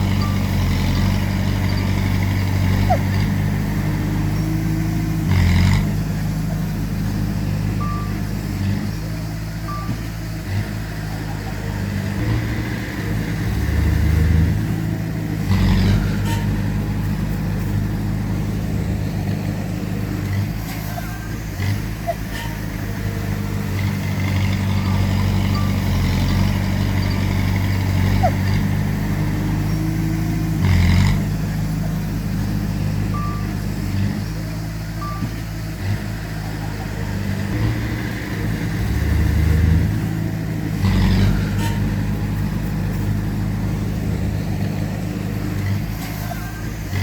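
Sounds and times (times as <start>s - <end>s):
diesel machinery engine running: 0.0s - 47.0s.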